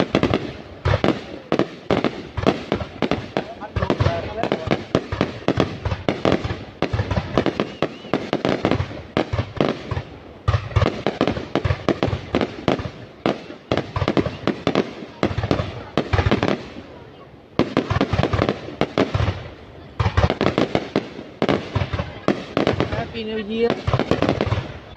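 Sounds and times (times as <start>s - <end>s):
fireworks bangs: 0.0s - 24.9s.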